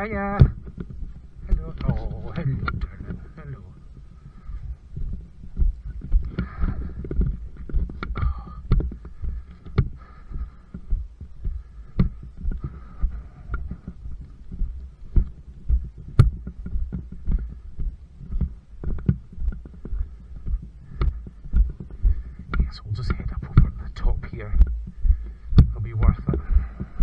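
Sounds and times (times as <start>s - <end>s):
footsteps on wooden boardwalk: 0.0s - 27.0s
steady low rumble: 0.0s - 27.0s.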